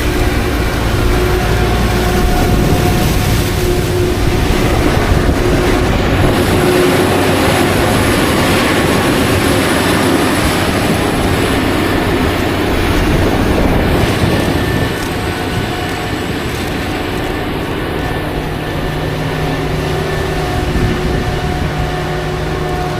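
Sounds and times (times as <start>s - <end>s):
heavy machinery running: 0.0s - 22.9s
thin steady whine: 0.0s - 22.9s.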